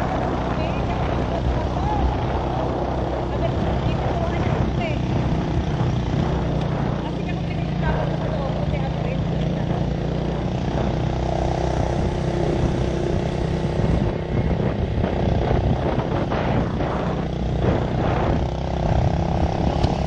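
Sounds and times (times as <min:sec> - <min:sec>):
motorcycle engine running: 0:00.0 - 0:20.0
rushing wind noise: 0:00.0 - 0:20.0.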